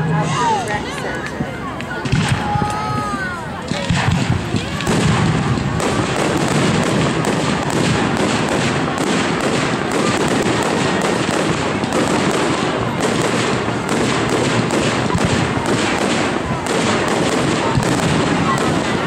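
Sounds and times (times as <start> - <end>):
fireworks bangs and crackling pops: 0.9 - 19.0.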